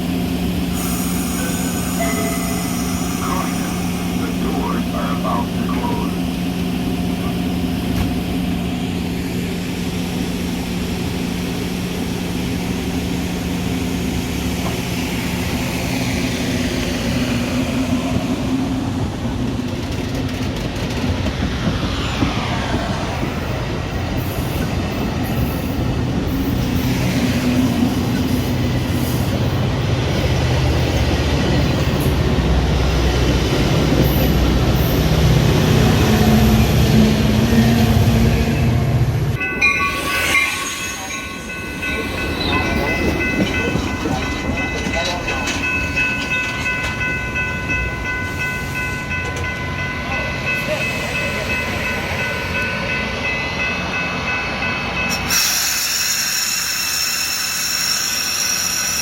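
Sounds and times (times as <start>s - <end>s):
train running hum: 0.0s - 59.0s.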